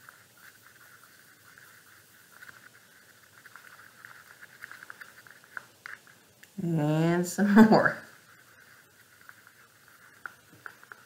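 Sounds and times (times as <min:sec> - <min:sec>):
paintbrush scratching in palette: 0:00.0 - 0:11.0.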